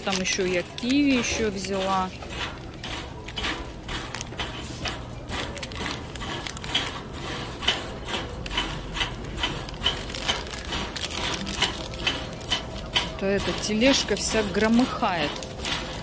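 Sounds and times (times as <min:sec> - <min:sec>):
shopping cart rattling on tiled floor: 0:00.0 - 0:16.0.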